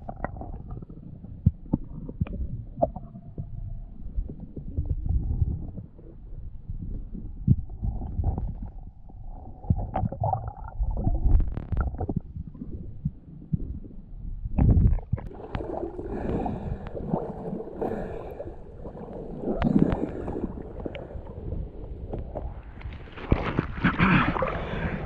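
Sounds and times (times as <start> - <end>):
muffled underwater gurgling: 0.0 - 25.0.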